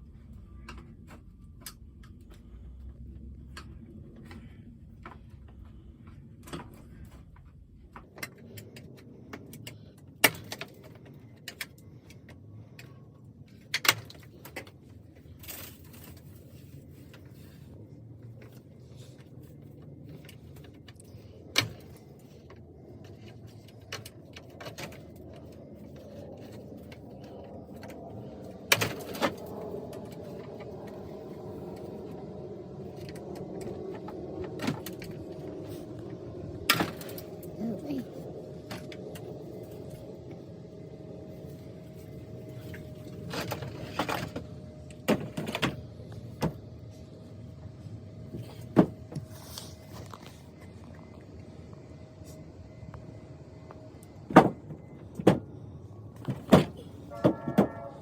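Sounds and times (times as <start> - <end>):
low background rumble: 0.0 - 58.0.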